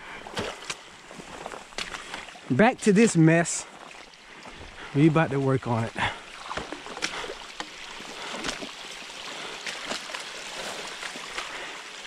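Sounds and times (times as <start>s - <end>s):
water running through dam: 0.0s - 12.0s
water splashes: 0.0s - 12.0s.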